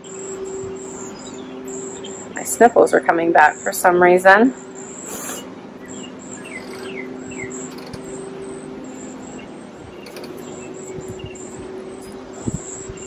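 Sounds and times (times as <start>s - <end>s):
bird chirping: 0.0s - 13.0s
insects buzzing: 0.0s - 13.0s
steady low hum: 0.0s - 13.0s.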